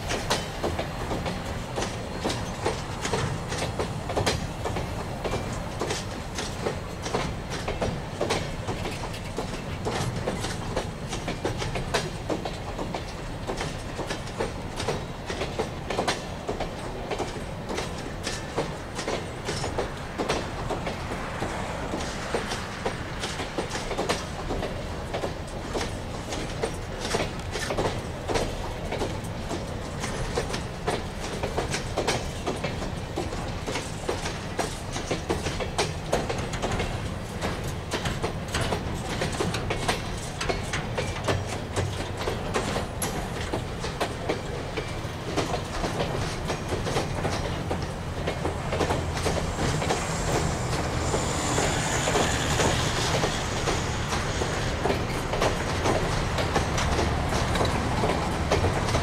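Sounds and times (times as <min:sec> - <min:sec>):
freight train rumbling: 0:00.0 - 0:59.0
wheels clacking over rail joints: 0:00.0 - 0:59.0.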